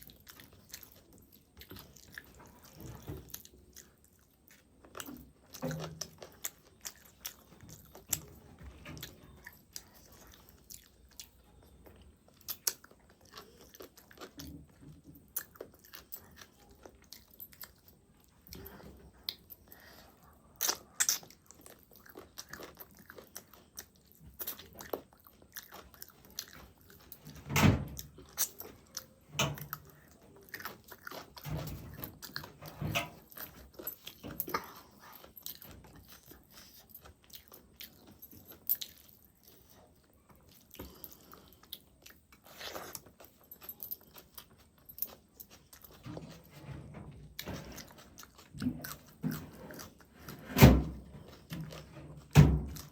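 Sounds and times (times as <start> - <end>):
close chewing and biting: 0.0 - 52.9.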